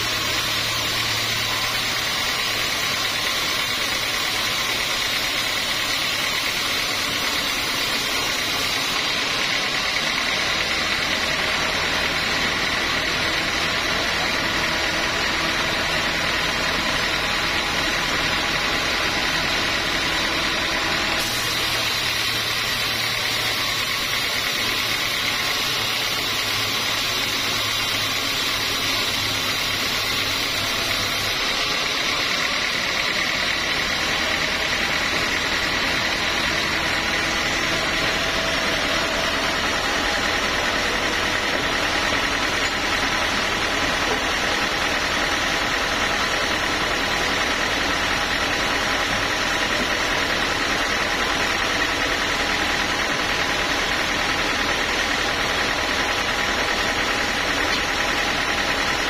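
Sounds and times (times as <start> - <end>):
band saw whirring: 0.0 - 59.0.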